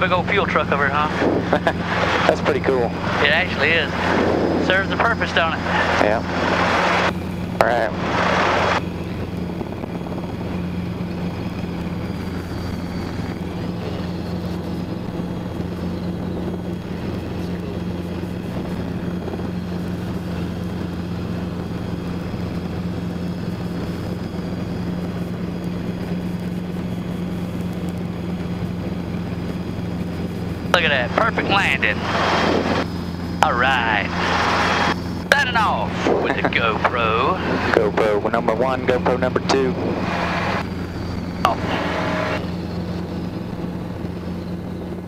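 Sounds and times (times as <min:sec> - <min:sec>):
faint high whine: 0:00.0 - 0:45.0
helicopter engine and rotor drone: 0:00.0 - 0:45.0.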